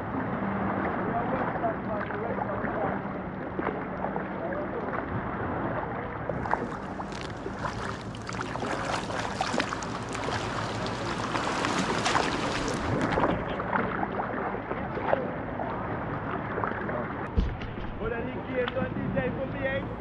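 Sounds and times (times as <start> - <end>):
water sloshing around kayak: 0.0 - 20.0
paddle strokes splashing: 0.7 - 20.0.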